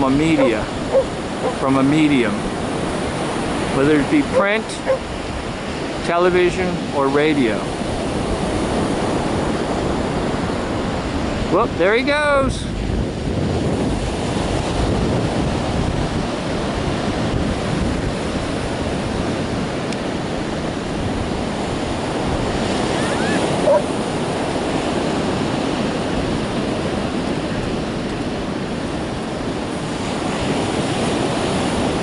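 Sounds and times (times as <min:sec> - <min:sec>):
ocean surf washing on beach: 0:00.0 - 0:32.0
wind buffeting microphone: 0:00.0 - 0:32.0.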